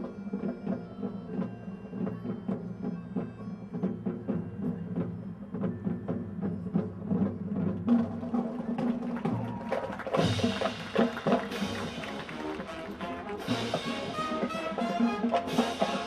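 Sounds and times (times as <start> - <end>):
marching band wind chords: 0.0 - 16.0
percussion strikes: 0.0 - 16.0.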